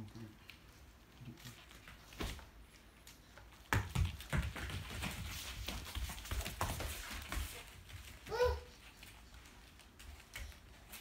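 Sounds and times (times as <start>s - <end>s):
puppy scampering on foam mats: 0.4s - 11.0s.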